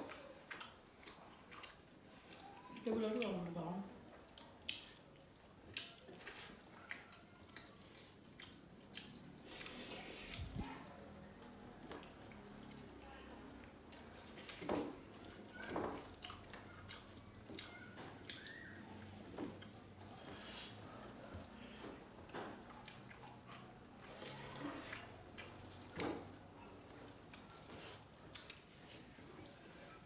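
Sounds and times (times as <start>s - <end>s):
lip smacks and chewing: 0.0s - 30.0s
wet squishing of fingers mixing food: 0.0s - 30.0s.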